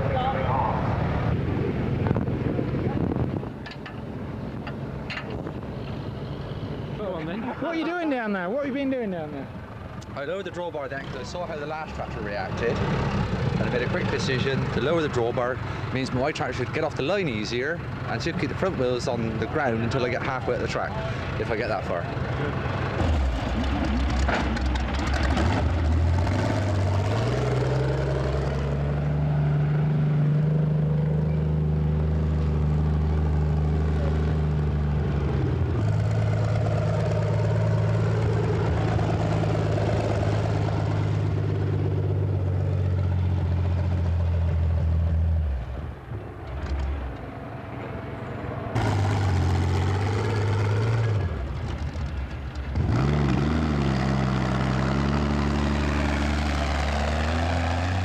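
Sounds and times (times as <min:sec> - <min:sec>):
tractor engine under load: 0:00.0 - 0:07.4, 0:09.6 - 0:58.0.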